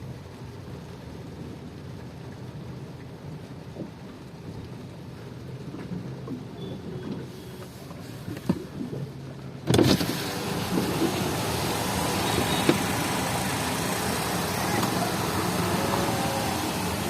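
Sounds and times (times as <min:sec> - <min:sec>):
rain: 0:00.0 - 0:17.0
traffic: 0:00.0 - 0:17.0.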